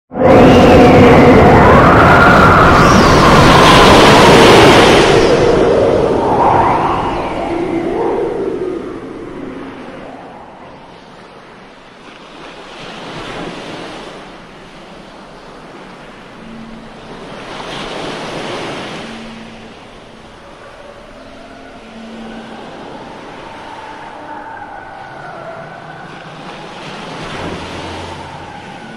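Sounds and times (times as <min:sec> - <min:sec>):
faint sustained tones: 0:00.1 - 0:11.9, 0:14.8 - 0:28.9
ocean waves washing: 0:00.1 - 0:28.9.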